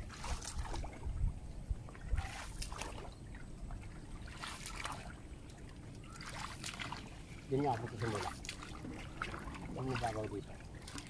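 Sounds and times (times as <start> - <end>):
paddle splashing in water: 0.0 - 1.2, 1.8 - 11.0.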